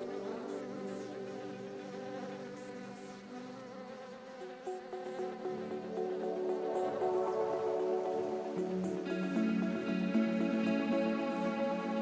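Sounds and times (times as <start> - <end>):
insect wings buzzing: 0.0 - 11.9.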